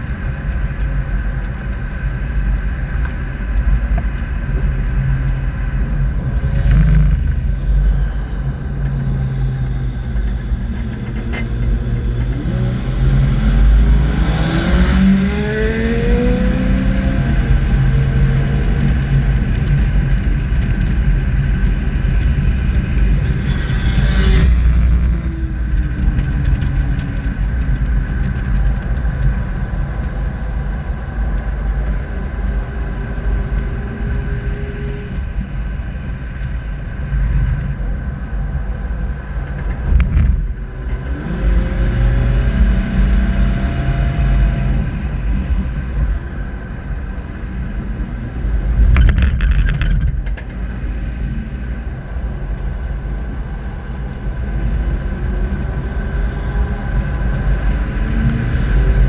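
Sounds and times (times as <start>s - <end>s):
car engine: 0.0s - 59.0s
road noise: 0.0s - 59.0s
wind rumble: 0.0s - 59.0s.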